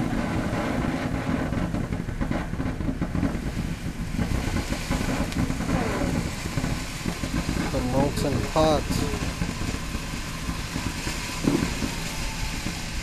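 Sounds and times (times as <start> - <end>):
firework crackles: 0.0 - 13.0
firework fountain rushing: 0.0 - 13.0.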